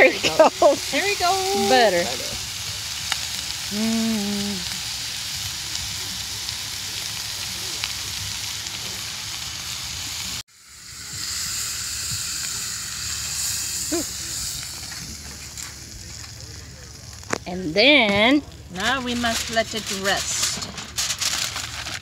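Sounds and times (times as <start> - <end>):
steaks sizzling in a skillet: 0.0 - 20.6.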